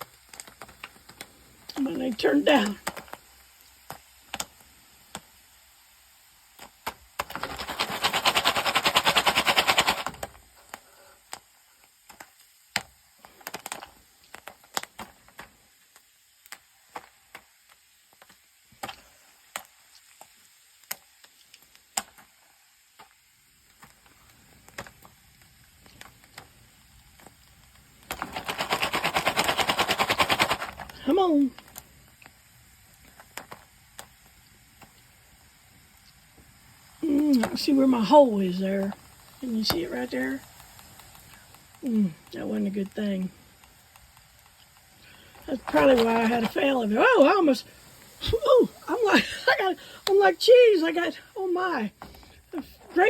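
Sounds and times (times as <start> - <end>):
rattling and crackling foil pan: 0.0 - 5.4, 6.5 - 35.0, 37.1 - 53.0
popcorn kernels popping: 0.0 - 53.0.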